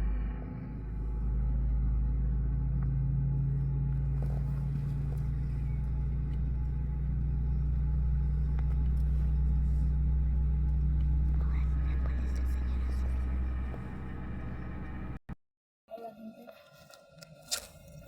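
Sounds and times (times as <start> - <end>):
airliner engines droning in cabin: 0.0 - 15.2.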